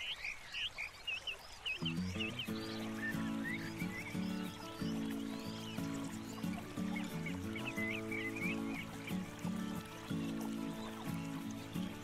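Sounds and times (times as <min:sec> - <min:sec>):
instrumental music with low notes: 0:01.8 - 0:12.0.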